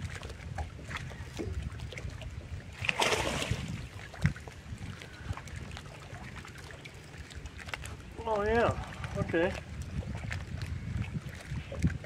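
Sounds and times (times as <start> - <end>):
water lapping against boat hull: 0.0 - 12.0
wind buffeting microphone: 0.0 - 12.0.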